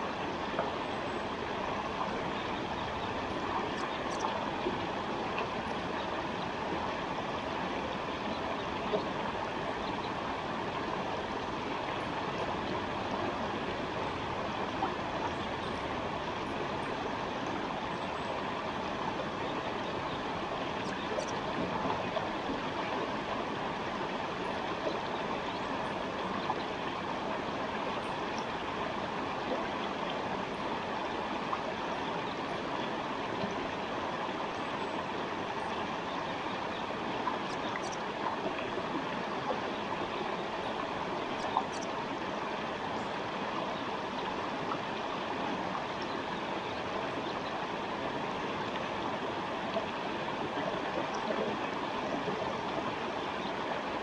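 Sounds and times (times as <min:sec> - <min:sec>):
stream water babbling over stones: 0:00.0 - 0:54.0.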